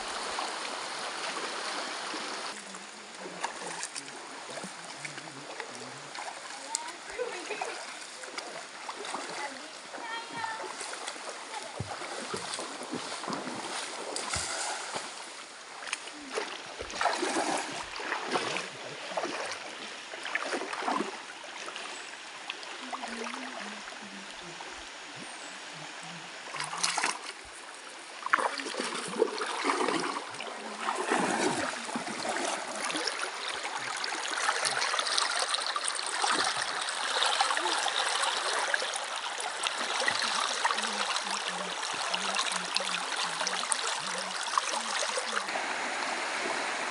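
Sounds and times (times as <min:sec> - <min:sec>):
water rushing over stones: 0:00.0 - 0:19.7, 0:26.4 - 0:46.9
feet splashing in stream: 0:00.0 - 0:23.4, 0:26.5 - 0:46.9.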